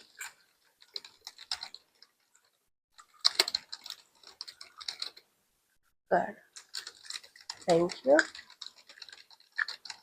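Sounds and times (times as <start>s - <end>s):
keyboard typing: 0.0s - 5.3s, 6.5s - 10.0s.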